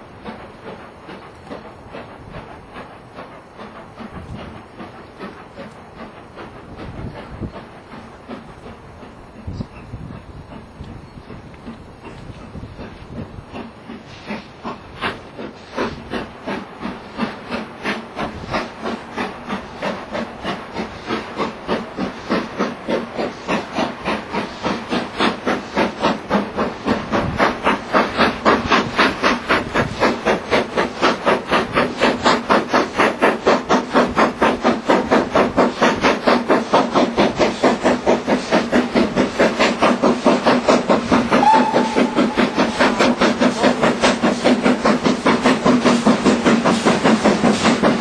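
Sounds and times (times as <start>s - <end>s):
steam locomotive chuffing: 0.0s - 48.0s.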